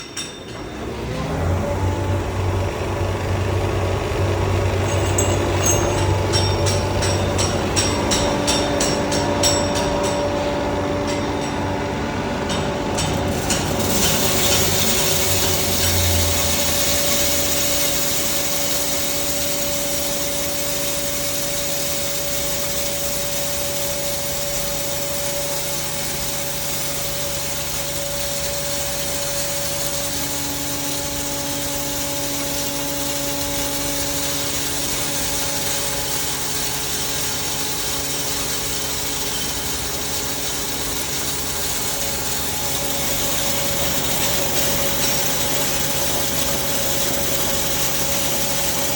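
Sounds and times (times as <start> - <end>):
grinder mechanical drone: 0.0 - 48.9.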